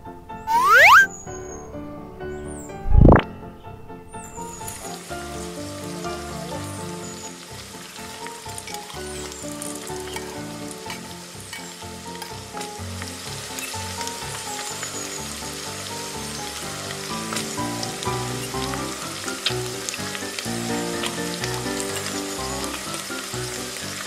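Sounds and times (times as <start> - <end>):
background music: 0.0 - 24.0
vegetables sizzling in a pan: 4.3 - 24.0.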